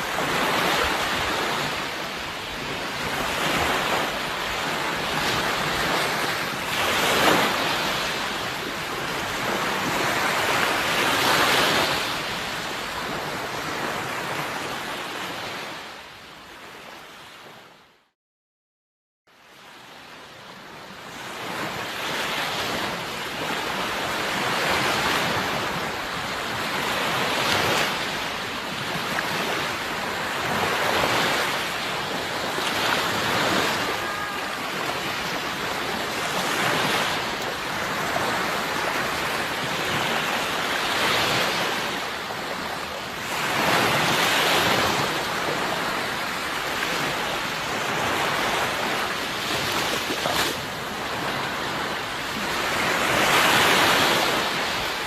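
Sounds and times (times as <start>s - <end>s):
sea waves breaking: 0.0s - 17.7s, 20.6s - 55.0s.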